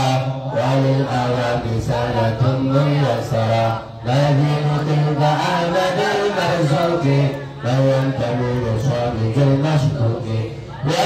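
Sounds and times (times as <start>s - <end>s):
man chanting through microphone: 0.0s - 11.0s.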